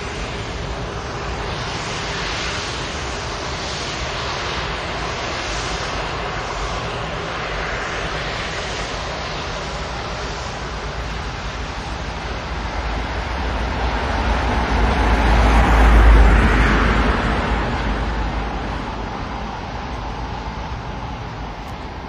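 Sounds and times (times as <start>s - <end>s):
jet engine whoosh: 0.0s - 22.0s.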